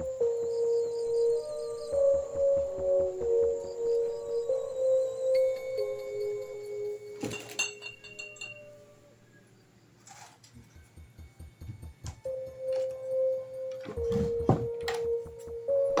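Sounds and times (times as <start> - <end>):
eerie ambient music: 0.0 - 16.0.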